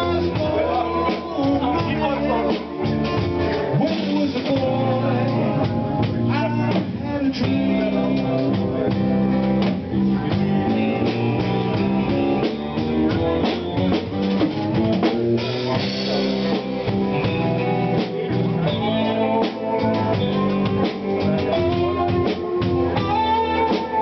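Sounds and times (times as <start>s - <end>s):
drum kit beat: 0.0s - 24.0s
live band playing: 0.0s - 24.0s.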